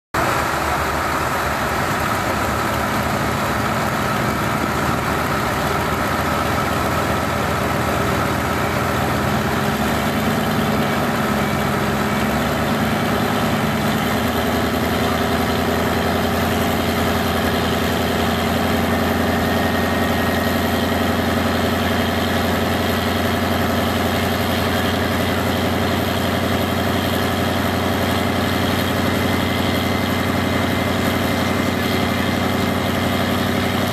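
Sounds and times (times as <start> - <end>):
diesel truck engine idling: 0.2 - 33.9.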